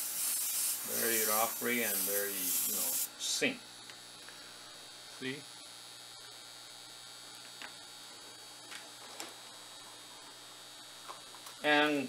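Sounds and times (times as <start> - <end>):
electrical hum with high whine: 0.0 - 12.0.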